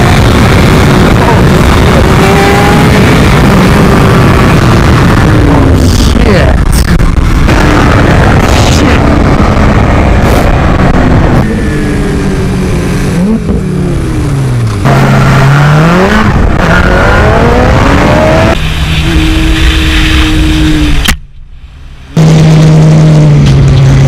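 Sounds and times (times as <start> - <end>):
motorcycle engines revving: 0.0 - 21.2
wind rush on camera: 0.0 - 21.2.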